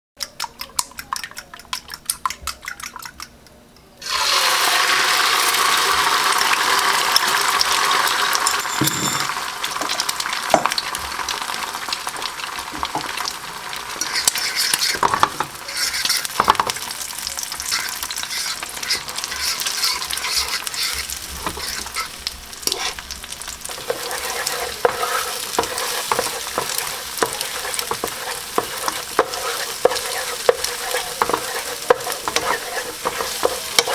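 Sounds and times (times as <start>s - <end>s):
chicken sizzling in hot oil: 4.0s - 33.9s.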